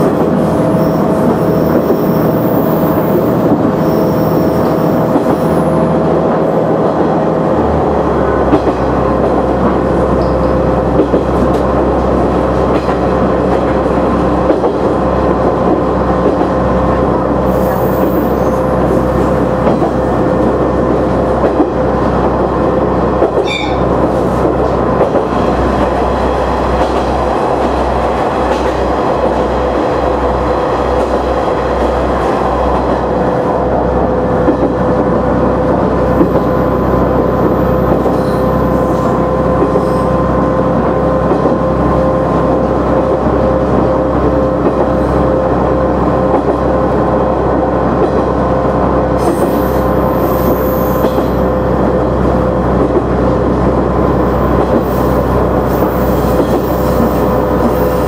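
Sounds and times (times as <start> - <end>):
railcar engine drone: 0.0 - 58.0.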